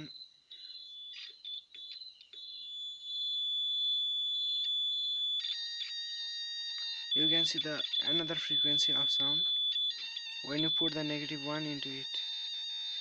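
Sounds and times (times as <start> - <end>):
high-pitched continuity beep: 0.0 - 13.0.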